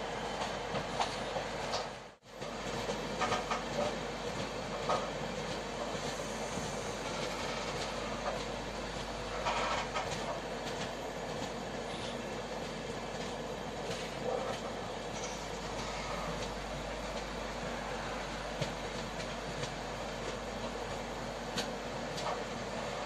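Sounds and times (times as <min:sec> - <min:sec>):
train wheels rushing on rails: 0:00.0 - 0:23.0.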